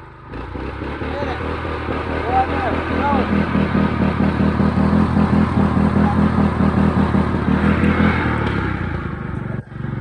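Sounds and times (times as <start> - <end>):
lawnmower engine under load: 0.0 - 10.0.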